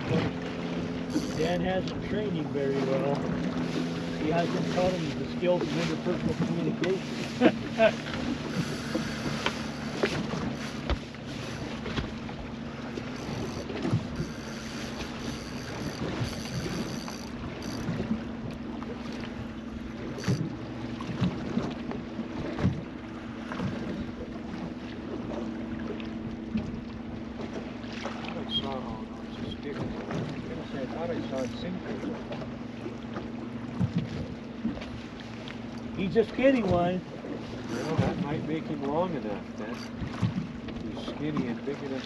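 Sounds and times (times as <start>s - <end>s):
boat motor humming: 0.0s - 42.0s.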